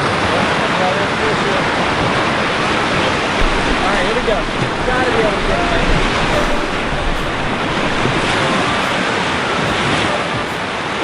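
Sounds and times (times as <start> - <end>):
surf washing and sloshing: 0.0 - 11.0
wind on microphone: 1.0 - 11.0.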